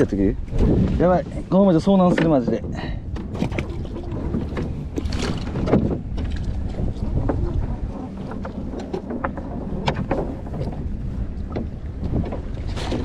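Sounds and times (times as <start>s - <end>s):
choppy sea splashing against hull: 0.0s - 13.0s
short knocks and splashes: 0.0s - 13.0s
wind buffeting the microphone: 0.0s - 13.0s.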